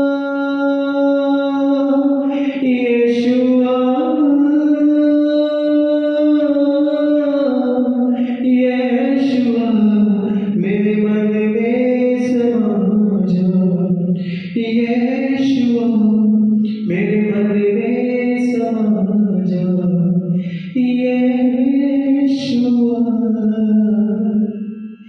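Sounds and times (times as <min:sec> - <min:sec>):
man singing worship song: 0:00.0 - 0:25.0.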